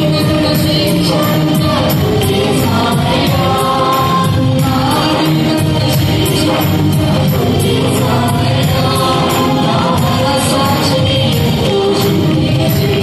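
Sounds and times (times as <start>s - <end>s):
band with keyboard guitar drums: 0.0s - 13.0s
women singing worship song: 0.0s - 13.0s.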